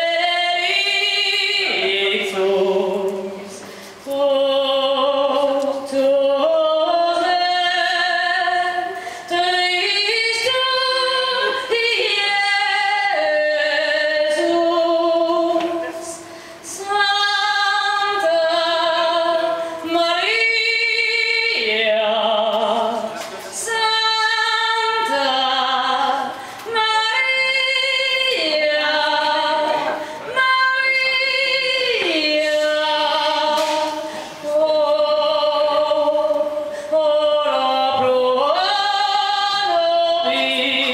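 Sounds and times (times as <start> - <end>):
woman singing into microphone: 0.0 - 40.9.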